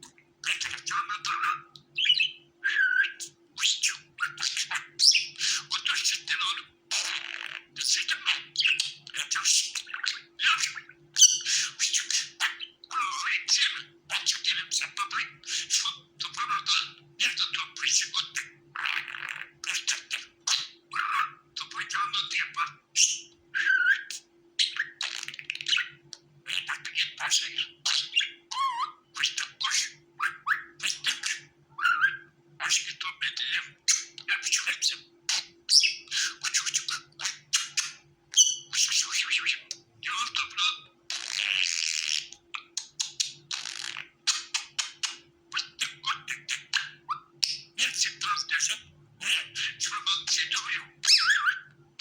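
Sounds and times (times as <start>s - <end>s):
faint low hum: 0.0s - 52.0s
budgerigars chirping and warbling: 0.4s - 51.7s.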